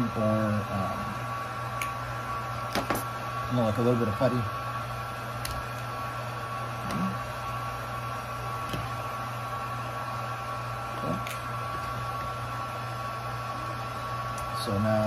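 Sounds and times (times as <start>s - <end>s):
heat gun humming: 0.0s - 15.0s.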